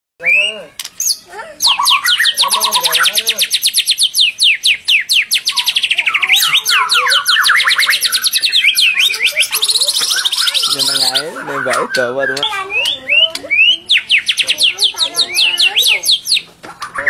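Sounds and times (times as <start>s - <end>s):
bird singing whistled notes: 0.2s - 16.5s.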